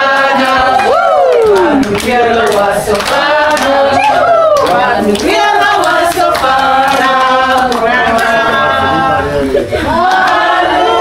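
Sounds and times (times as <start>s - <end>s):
group singing without instruments: 0.0s - 11.0s.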